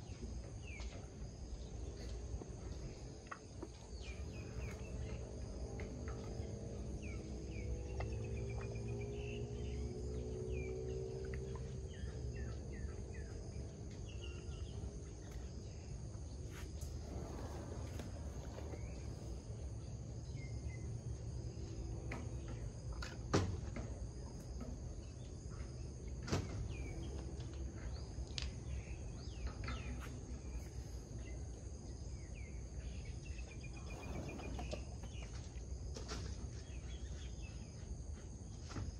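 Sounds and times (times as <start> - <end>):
low hum: 0.0 - 38.2
high insect drone: 0.0 - 38.9.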